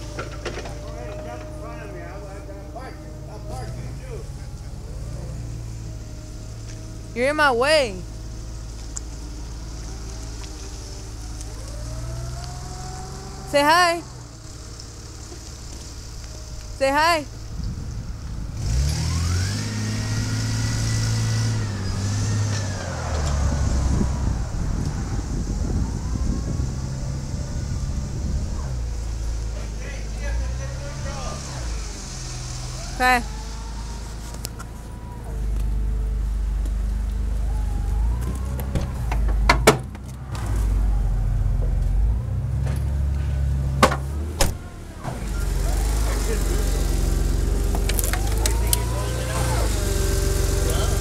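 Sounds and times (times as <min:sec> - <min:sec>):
engine revving with whine: 0:00.0 - 0:51.0.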